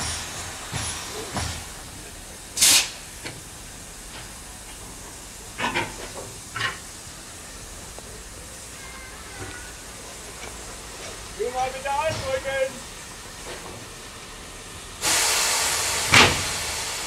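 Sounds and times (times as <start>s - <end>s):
loud burst of steam: 0.0s - 17.0s
steam locomotive hissing: 0.0s - 17.0s.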